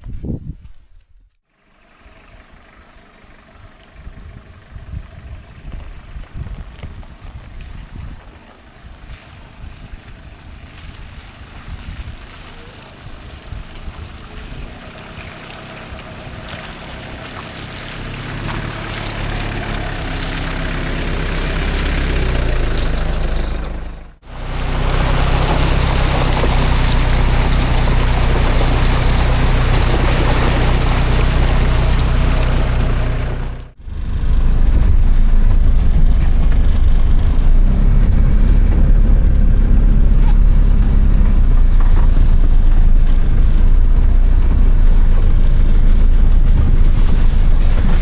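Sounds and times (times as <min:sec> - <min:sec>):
van engine and road noise: 0:01.4 - 0:48.0.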